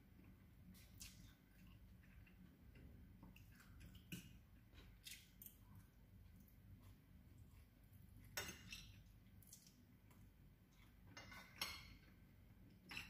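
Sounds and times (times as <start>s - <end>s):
soft chewing and slurping: 0.0s - 13.0s.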